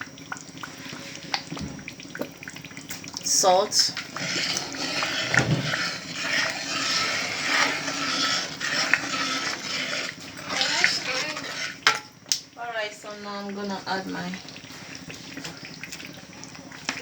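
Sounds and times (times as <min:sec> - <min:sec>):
stew sizzling in oil: 0:00.0 - 0:17.0.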